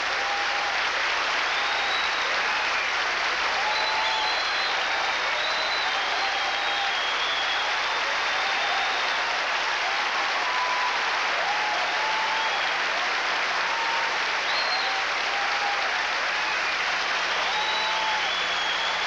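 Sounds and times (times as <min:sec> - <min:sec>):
audience applauding: 0:00.0 - 0:19.0
cheers and whistles: 0:00.0 - 0:19.0.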